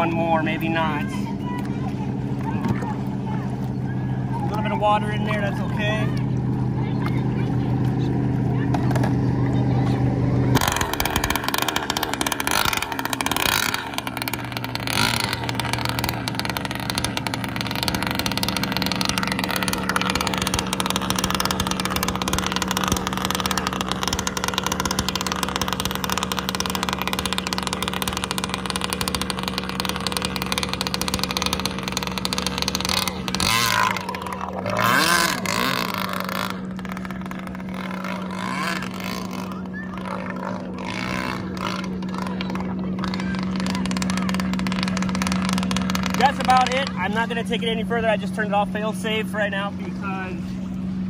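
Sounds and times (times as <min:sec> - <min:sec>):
boat motor running: 0:00.0 - 0:51.0.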